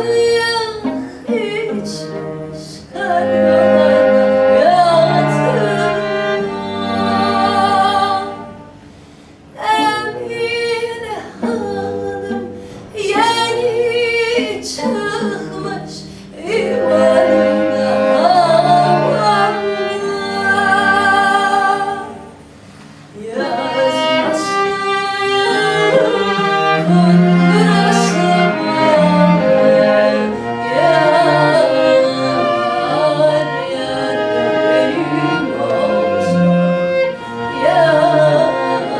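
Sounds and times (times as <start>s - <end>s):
woman singing: 0.0s - 8.5s, 9.5s - 22.3s, 23.2s - 36.6s, 37.4s - 38.9s
string instruments accompanying: 0.0s - 38.9s.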